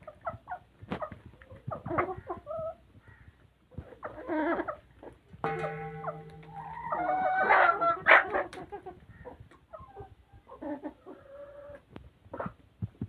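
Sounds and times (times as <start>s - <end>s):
chickens clucking: 0.0s - 12.6s.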